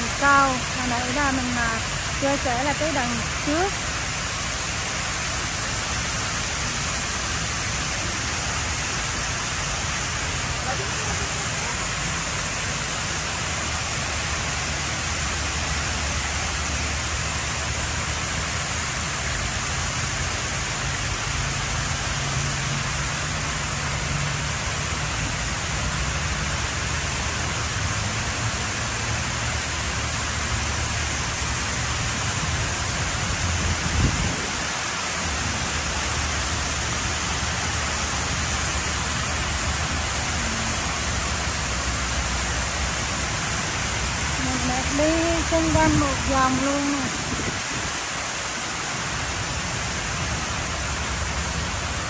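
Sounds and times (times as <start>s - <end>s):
fountain water splashing: 0.0s - 52.0s.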